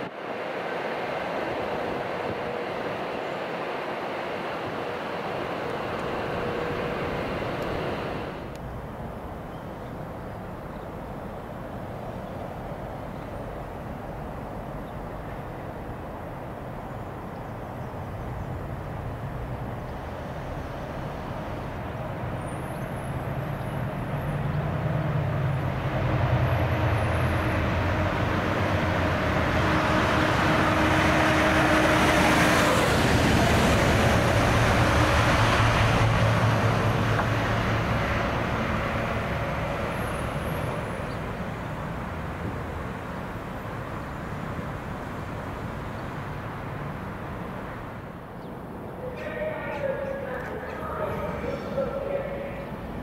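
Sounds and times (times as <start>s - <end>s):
diesel locomotive engine: 0.0s - 53.0s
wheel and rail noise: 0.0s - 53.0s.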